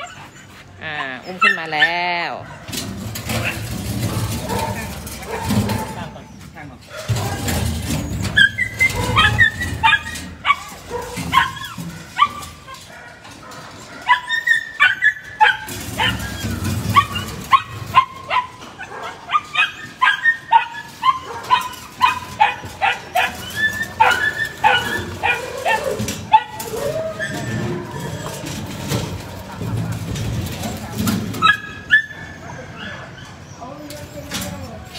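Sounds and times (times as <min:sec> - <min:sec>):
dogs barking and yelping: 0:00.0 - 0:34.9.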